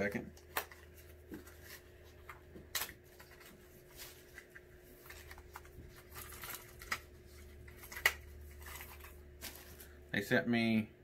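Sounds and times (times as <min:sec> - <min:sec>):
bubble wrap and plastic crinkling: 0:00.1 - 0:10.0.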